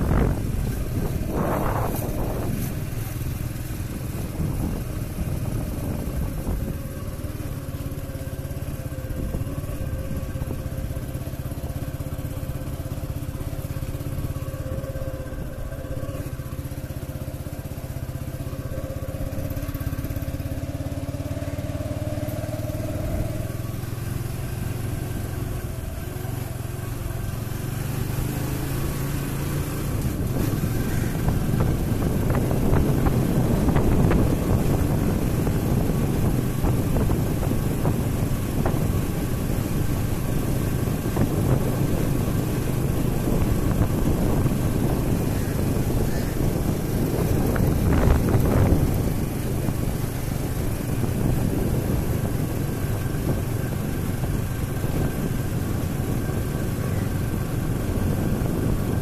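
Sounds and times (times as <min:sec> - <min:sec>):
motorcycle engine running at low revs: 0:00.0 - 0:59.0.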